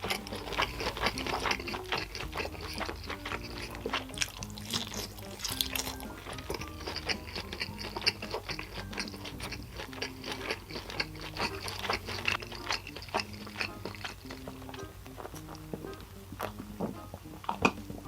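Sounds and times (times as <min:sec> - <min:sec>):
food crunching and clicking: 0:00.0 - 0:18.0
quiet background music: 0:00.0 - 0:18.0.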